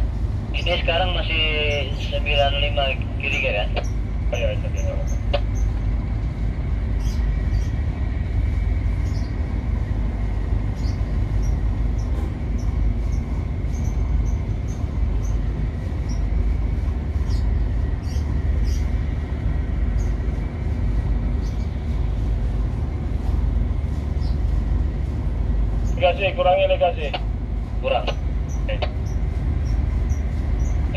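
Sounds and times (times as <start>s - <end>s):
faint steady whine: 0.0s - 30.9s
ship engine rumble: 0.0s - 30.9s.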